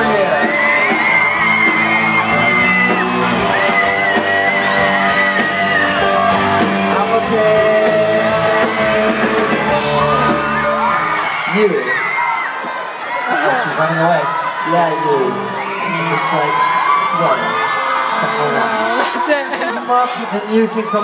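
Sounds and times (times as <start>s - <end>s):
live pop band playing: 0.0s - 12.6s, 14.6s - 21.0s
fans screaming and yelling: 0.0s - 21.0s.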